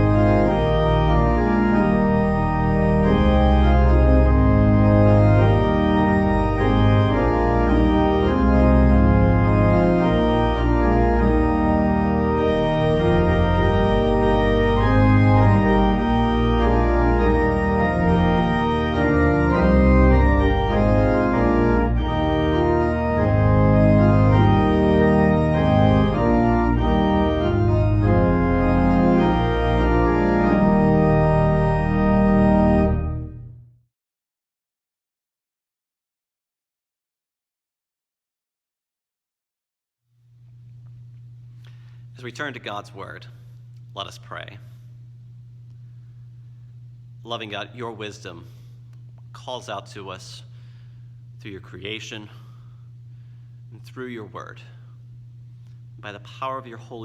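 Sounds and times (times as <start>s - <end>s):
organ playing chords: 0.0s - 33.8s, 40.3s - 57.0s.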